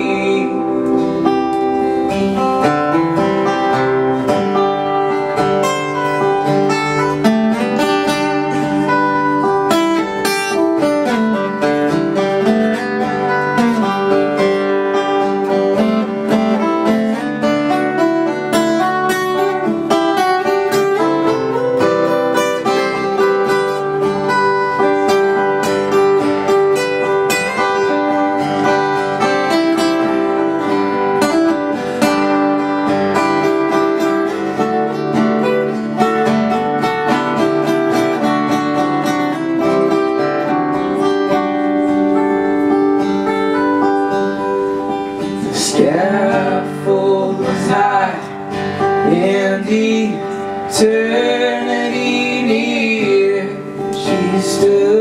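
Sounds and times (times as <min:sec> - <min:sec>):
strummed acoustic guitar: 0:00.0 - 0:55.0.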